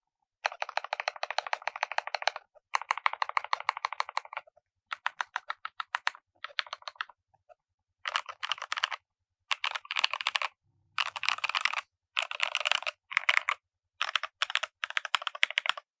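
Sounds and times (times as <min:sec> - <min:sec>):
typing on mechanical keyboard: 0:00.4 - 0:07.1, 0:08.0 - 0:15.9.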